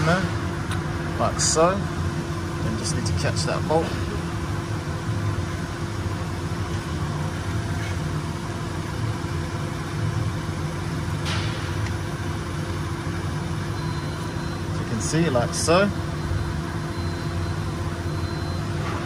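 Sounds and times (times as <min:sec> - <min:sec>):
low mechanical drone: 0:00.0 - 0:19.0.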